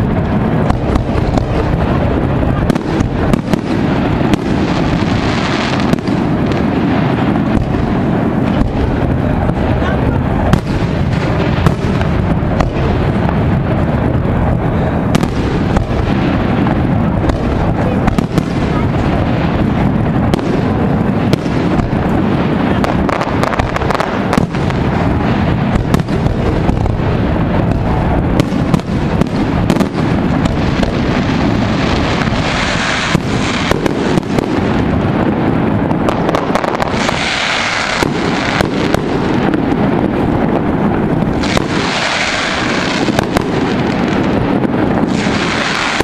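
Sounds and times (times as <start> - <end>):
low rumble: 0.0 - 37.2
fireworks bursts and bangs: 0.0 - 46.0.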